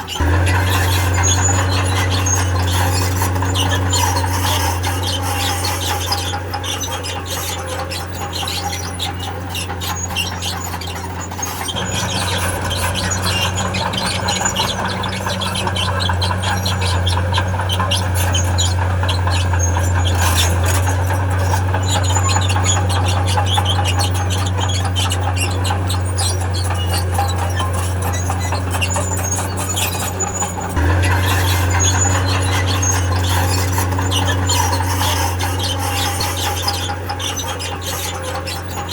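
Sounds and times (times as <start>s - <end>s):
diesel engine running: 0.0s - 38.9s
steel tracks squealing: 0.0s - 38.9s.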